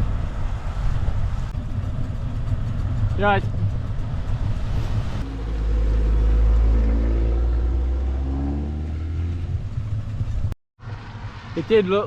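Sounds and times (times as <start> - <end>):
wind rumbling on microphone: 0.0 - 10.6
motor vehicle engine running: 0.0 - 11.5.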